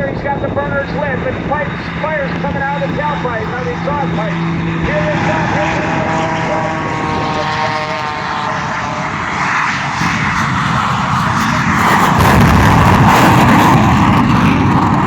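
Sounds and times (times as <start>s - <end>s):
biplane engine: 0.0s - 15.0s
jet engines on afterburner roaring: 0.0s - 15.0s.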